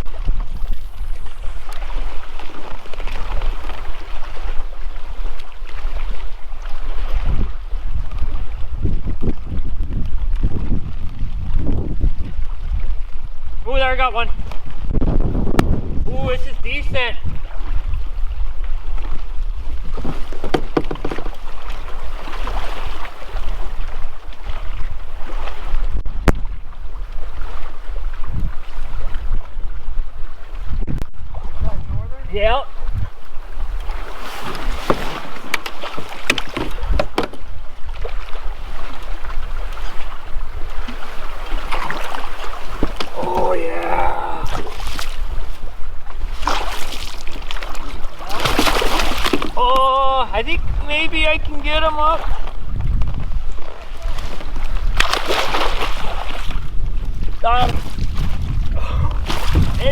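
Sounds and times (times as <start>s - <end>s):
water lapping against kayak: 0.0s - 59.9s
wind buffeting microphone: 0.0s - 59.9s.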